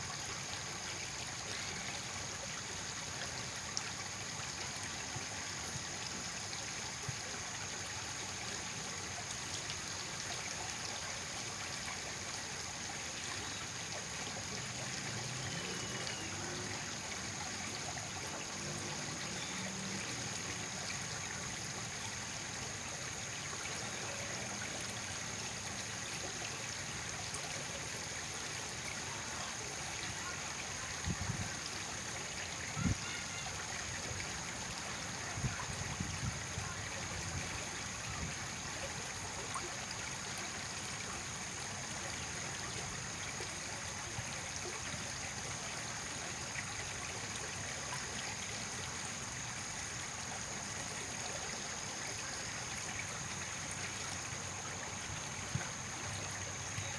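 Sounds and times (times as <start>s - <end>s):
water trickling: 0.0s - 56.9s.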